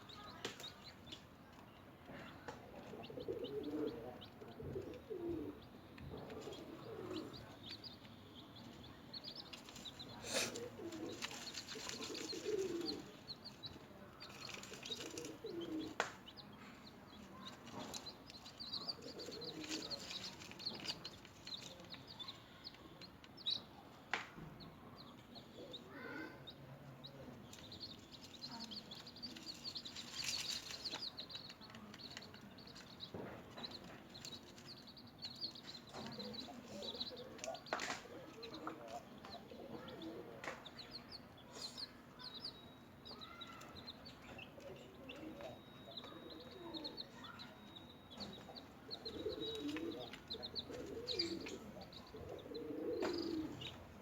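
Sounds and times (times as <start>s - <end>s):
chicks peeping: 0.0s - 54.0s
soft low chick calls: 0.0s - 54.0s.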